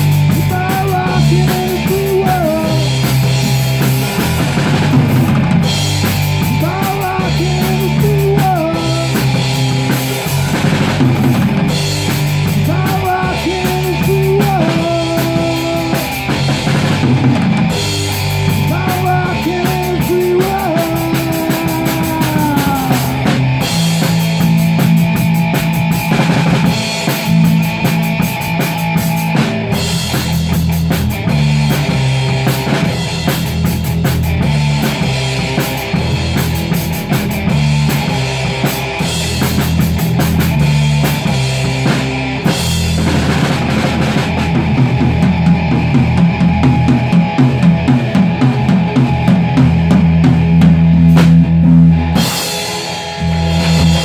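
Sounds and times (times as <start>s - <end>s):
drum kit: 0.0s - 54.0s
electric bass: 0.0s - 54.0s
electric guitar bending notes: 0.0s - 54.0s.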